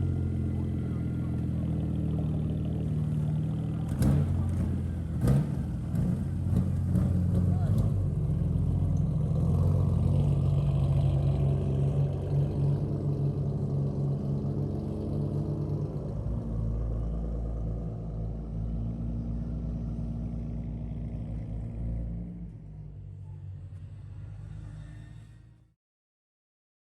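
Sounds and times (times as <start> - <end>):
car engine running: 0.0 - 25.6.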